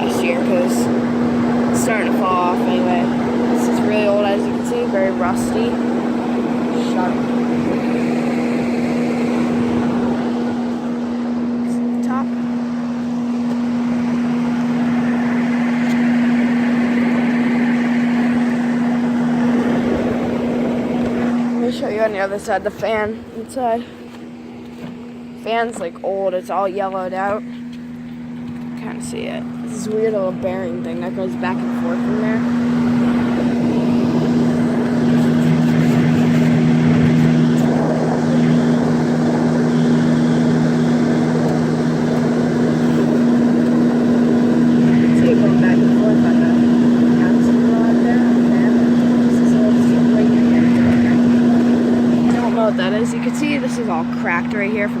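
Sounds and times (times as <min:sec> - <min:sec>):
air conditioner hum: 0:00.0 - 0:55.0
fan rushing: 0:00.0 - 0:55.0.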